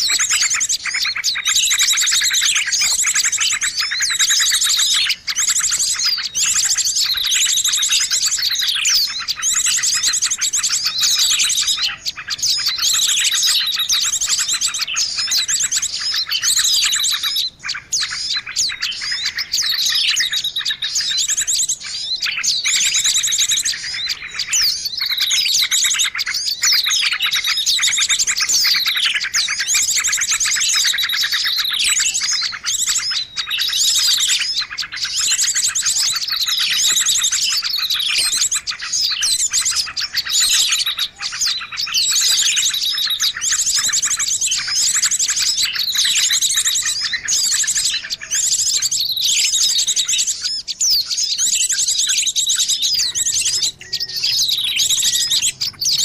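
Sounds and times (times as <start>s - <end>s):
small birds chirping and trilling: 0.0s - 56.0s.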